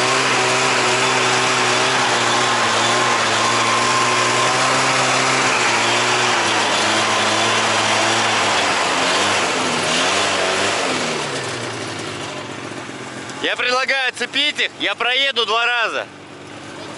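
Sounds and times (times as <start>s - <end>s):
snowmobile engine running: 0.0s - 16.9s.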